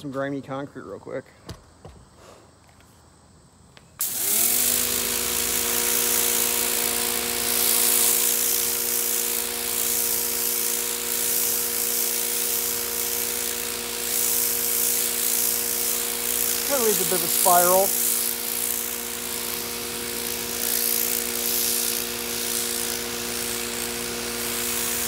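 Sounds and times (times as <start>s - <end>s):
pressure washer motor humming: 4.0s - 25.0s
water spray hissing on concrete: 4.0s - 25.0s.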